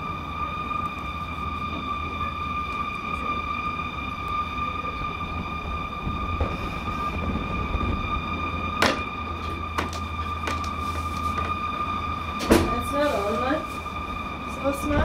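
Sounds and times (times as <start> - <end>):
loud high droning tone: 0.0 - 15.0
low rumble: 0.0 - 15.0.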